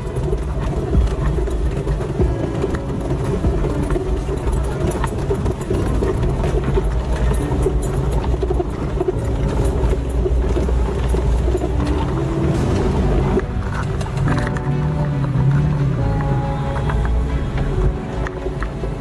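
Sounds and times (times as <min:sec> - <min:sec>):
knocks and rattles: 0:00.0 - 0:16.2
off-road vehicle engine running: 0:00.0 - 0:19.0.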